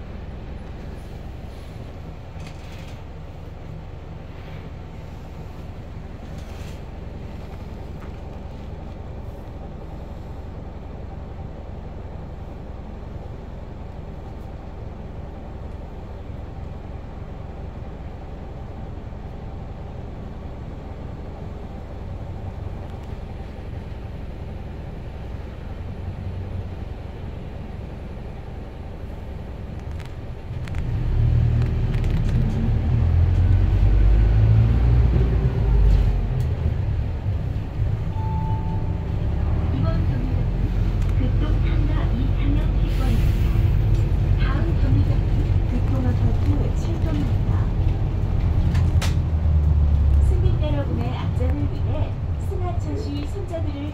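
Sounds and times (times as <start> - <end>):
bus engine idling: 0.0 - 53.9
engine whine: 4.4 - 53.9.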